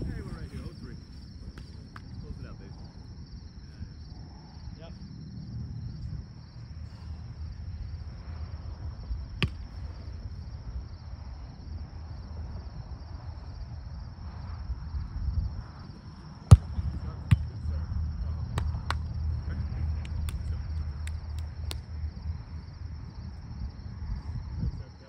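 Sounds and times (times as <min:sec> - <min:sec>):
low steady rumble: 0:00.0 - 0:24.9
insects trilling: 0:00.0 - 0:25.0.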